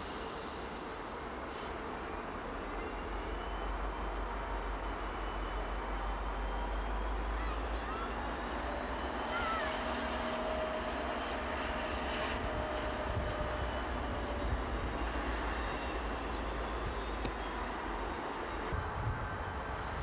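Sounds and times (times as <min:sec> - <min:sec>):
locomotive engines rumbling: 0:00.0 - 0:20.0.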